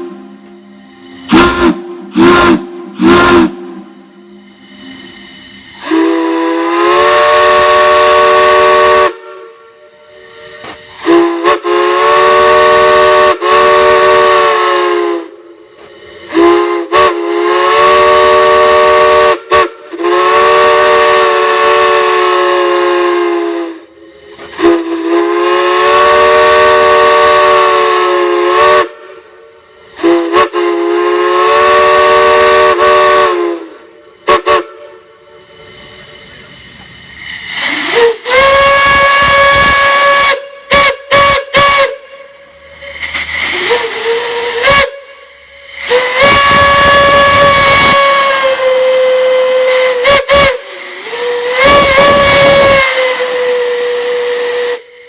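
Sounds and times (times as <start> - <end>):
hiss of escaping steam: 0.0 - 55.0.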